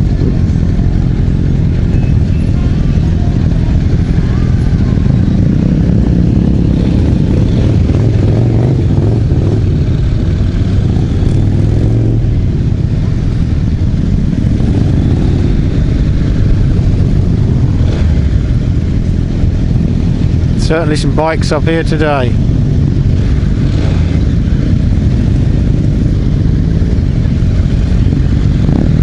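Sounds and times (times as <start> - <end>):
motorcycle running: 0.0 - 29.0
wind rumble on microphone: 0.0 - 29.0.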